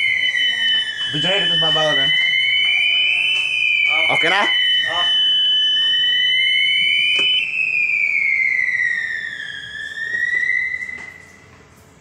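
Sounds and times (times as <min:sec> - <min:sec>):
steady high tone: 0:00.0 - 0:11.6
fire alarm siren wailing: 0:00.0 - 0:11.7.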